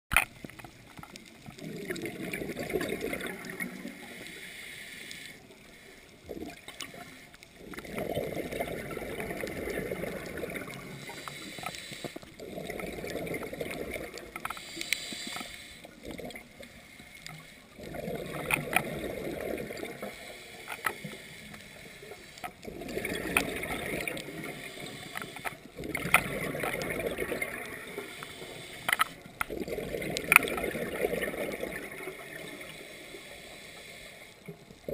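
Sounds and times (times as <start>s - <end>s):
faint clicks: 0.1s - 2.2s, 2.8s - 8.0s, 9.4s - 30.7s
exhaled bubbles gurgling: 0.1s - 4.5s, 5.4s - 33.4s, 34.4s - 34.9s.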